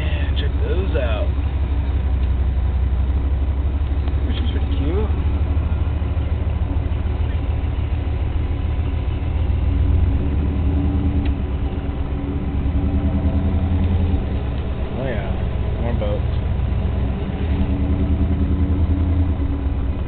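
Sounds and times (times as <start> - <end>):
car engine deep rumble: 0.0 - 20.0.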